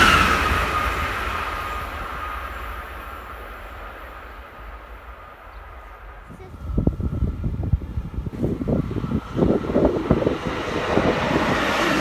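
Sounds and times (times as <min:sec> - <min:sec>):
train high whine: 0:00.0 - 0:12.0
train rolling noise: 0:00.0 - 0:12.0.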